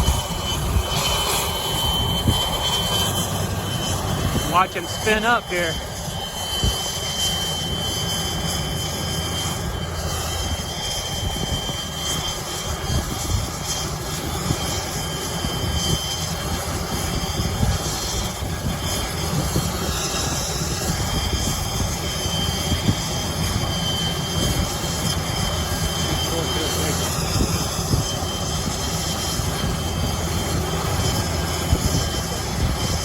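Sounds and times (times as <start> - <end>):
helicopter turbine whine: 0.0 - 33.0
rotor pulsing rumble: 0.0 - 33.0.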